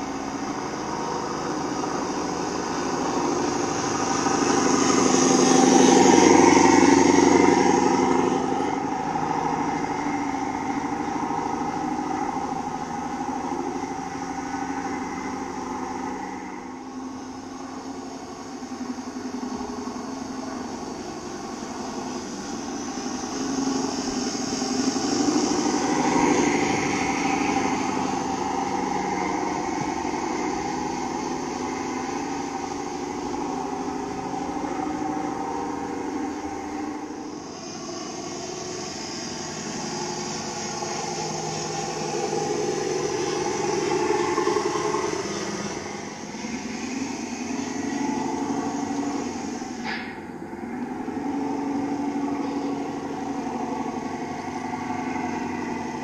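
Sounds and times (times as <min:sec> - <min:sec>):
simulated diesel engine: 0:00.0 - 0:56.0.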